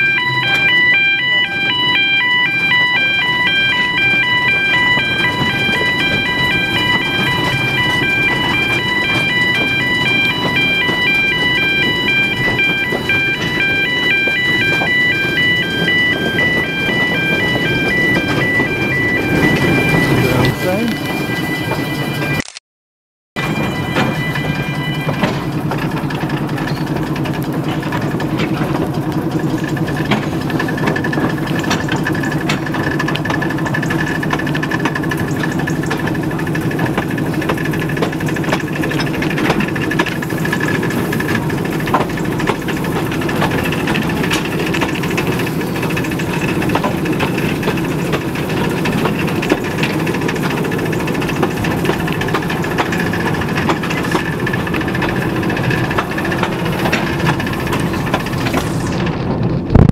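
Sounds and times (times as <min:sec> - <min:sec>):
train low rumble: 0:00.0 - 0:22.4, 0:23.4 - 0:59.9.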